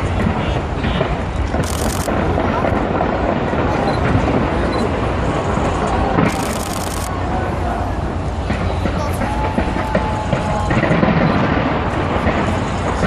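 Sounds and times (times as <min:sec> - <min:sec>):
crowd voices: 0:00.0 - 0:13.0
fireworks booming: 0:00.0 - 0:13.0.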